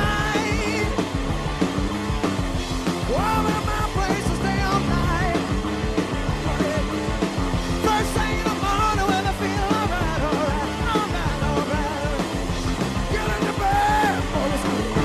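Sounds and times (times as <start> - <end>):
electric lead guitar: 0.0 - 15.0
rock band playing live: 0.0 - 15.0.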